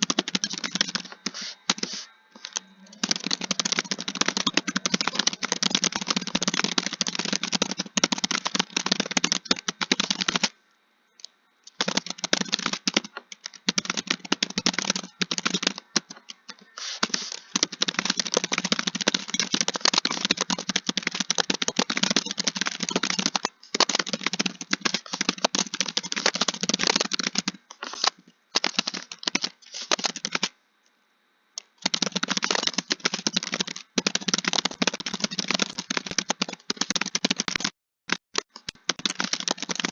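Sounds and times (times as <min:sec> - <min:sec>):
fast keyboard typing: 0:00.0 - 0:10.6, 0:11.7 - 0:30.6, 0:31.6 - 0:39.9.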